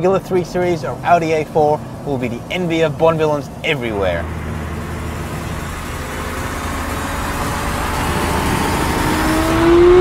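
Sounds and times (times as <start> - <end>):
car approaching at speed: 0.6 - 10.0.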